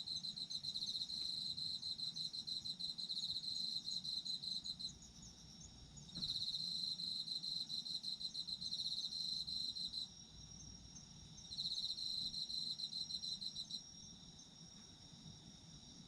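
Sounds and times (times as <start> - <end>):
cricket pulsing trill: 0.0 - 16.0.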